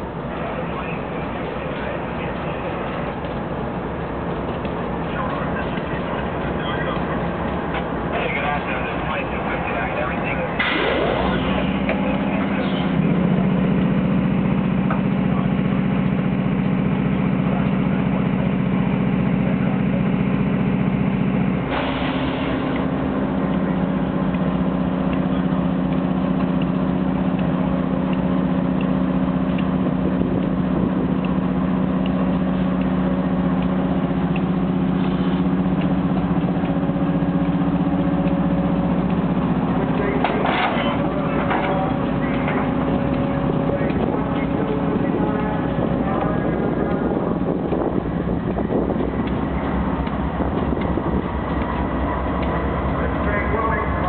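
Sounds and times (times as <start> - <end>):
locomotive engine humming: 0.0 - 54.0.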